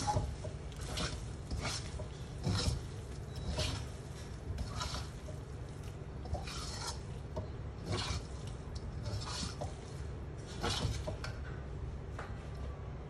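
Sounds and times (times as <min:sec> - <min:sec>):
metal spatula scraping wok: 0:00.0 - 0:11.3
steady low hum: 0:00.0 - 0:13.0.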